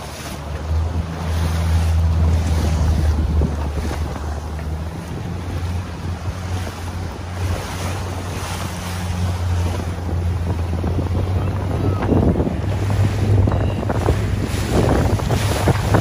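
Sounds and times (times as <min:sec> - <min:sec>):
outboard motor humming: 0:00.0 - 0:16.0
sea water splashing: 0:00.0 - 0:16.0
wind buffeting microphone: 0:00.2 - 0:16.0.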